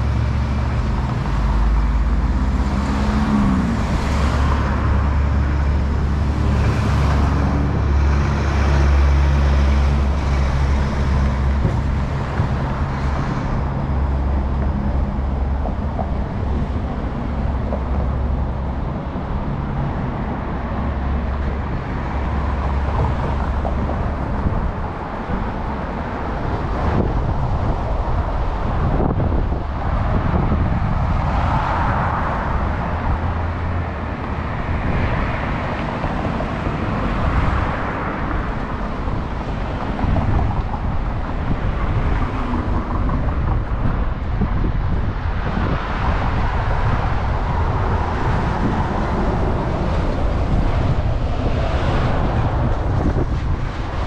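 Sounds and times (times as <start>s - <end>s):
cars passing by: 0.0s - 54.0s
low engine hum: 0.0s - 54.0s.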